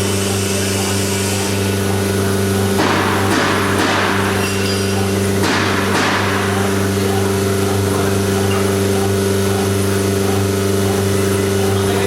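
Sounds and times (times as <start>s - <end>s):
cutting machine humming: 0.0s - 12.0s.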